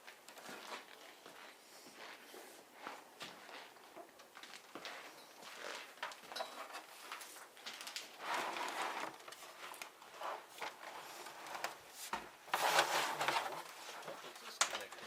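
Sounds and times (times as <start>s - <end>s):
objects rustling and clattering: 0.0s - 15.0s.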